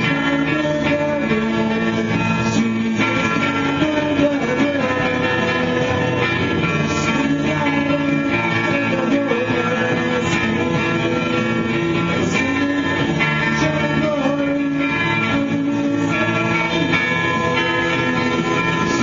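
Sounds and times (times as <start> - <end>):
electric guitar chords: 0.0 - 19.0
man singing into microphone: 0.0 - 19.0.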